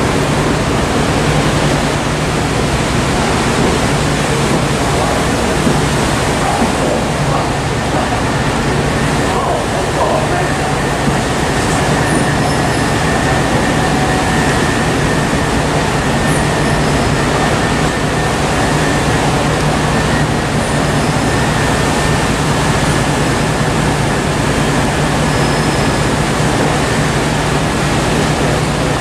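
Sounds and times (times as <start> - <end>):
train equipment humming: 0.0 - 29.0.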